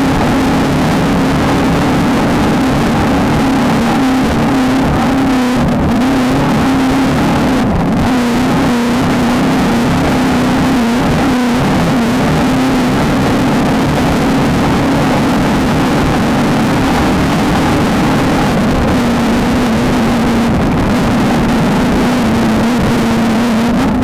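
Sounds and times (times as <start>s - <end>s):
constant noisy rush: 0.0s - 24.0s
race vehicle engine running hard: 0.0s - 24.0s.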